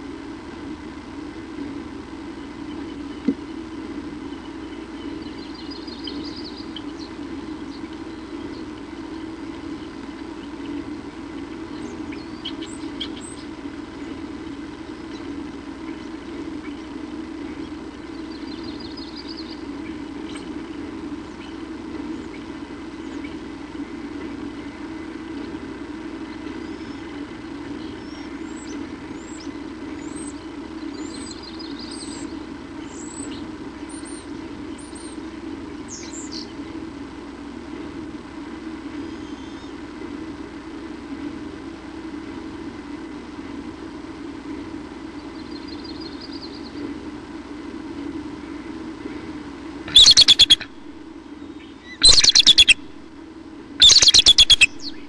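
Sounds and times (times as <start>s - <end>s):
small birds chirping: 0.0s - 36.9s, 38.8s - 40.3s, 44.2s - 55.0s
low background rumble: 0.0s - 55.0s.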